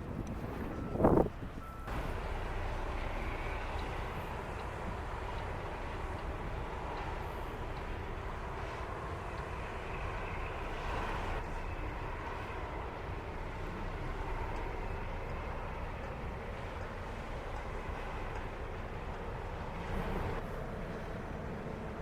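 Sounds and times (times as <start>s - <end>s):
ferry engines rumbling: 0.0s - 22.0s.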